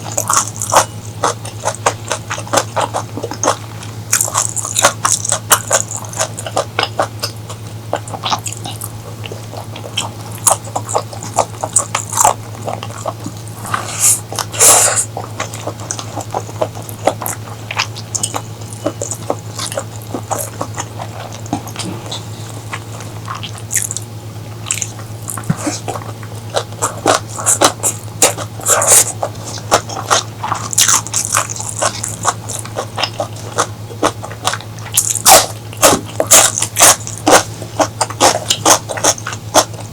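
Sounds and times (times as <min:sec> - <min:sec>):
crunchy chewing: 0:00.0 - 0:39.9
steady low hum: 0:00.0 - 0:39.9.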